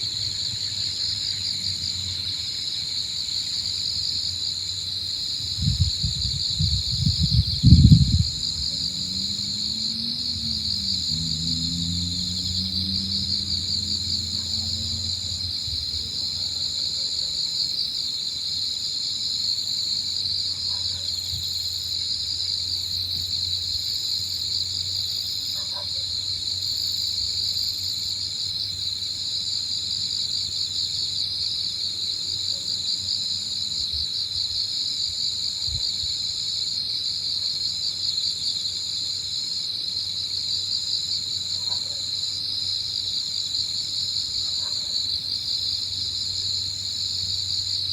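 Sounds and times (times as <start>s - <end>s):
higher-pitched insect layer: 0.0s - 47.9s
insects chirping chorus: 0.0s - 47.9s.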